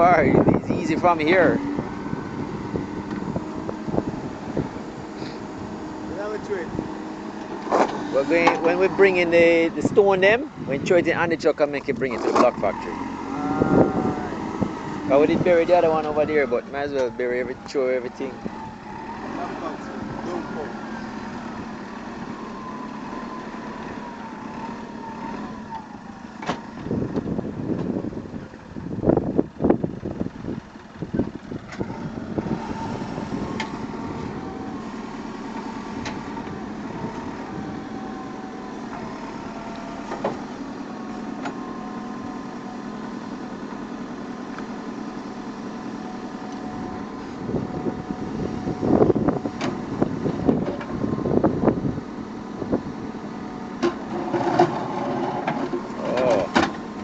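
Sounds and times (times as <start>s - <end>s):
hydraulic whine: 0.0s - 28.6s, 31.0s - 57.0s
diesel engine running: 0.0s - 57.0s.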